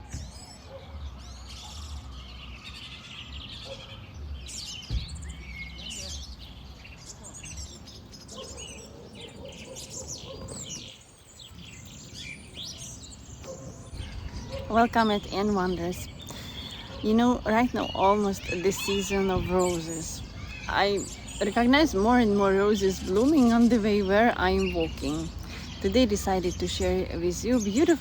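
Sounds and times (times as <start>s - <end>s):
birds singing and chirping: 0.0s - 28.0s.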